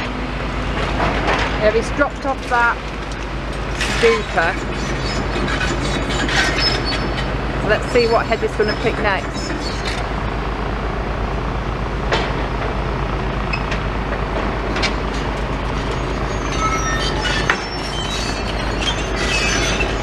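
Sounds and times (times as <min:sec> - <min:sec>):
diesel excavator engines droning: 0:00.0 - 0:20.0.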